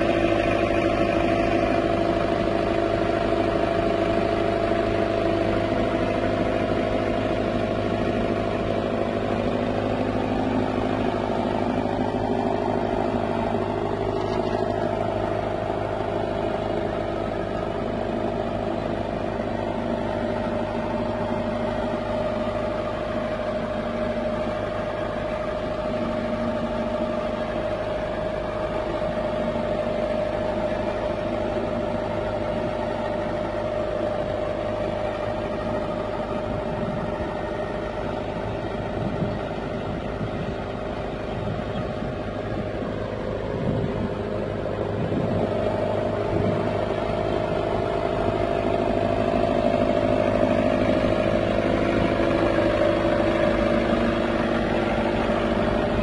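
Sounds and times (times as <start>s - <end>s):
road roller diesel engine running: 0.0s - 56.0s.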